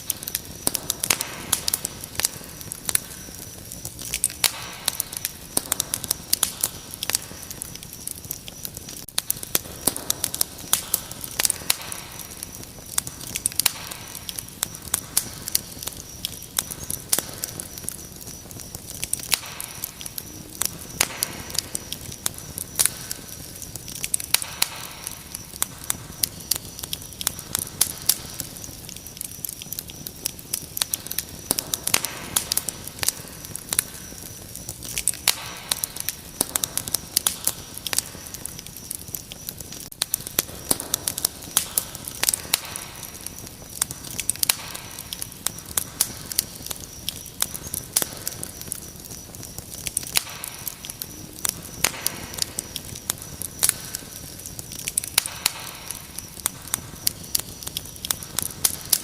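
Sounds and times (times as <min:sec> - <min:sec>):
cricket trill: 0:00.0 - 0:59.0
wood fire crackling and popping: 0:00.0 - 0:59.0.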